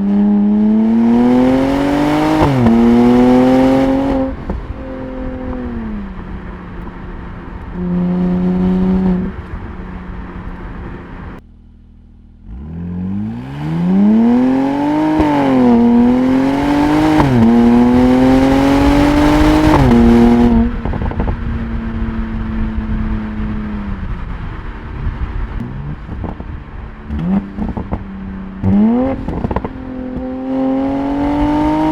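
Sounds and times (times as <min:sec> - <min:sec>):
car engine revving and accelerating: 0:00.0 - 0:11.4, 0:12.4 - 0:31.9.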